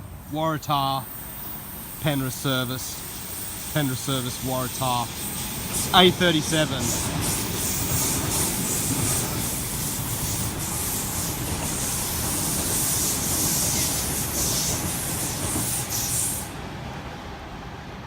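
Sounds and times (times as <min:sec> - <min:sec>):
wheels hissing on rails: 0:00.0 - 0:17.0
train rumbling: 0:00.0 - 0:18.0.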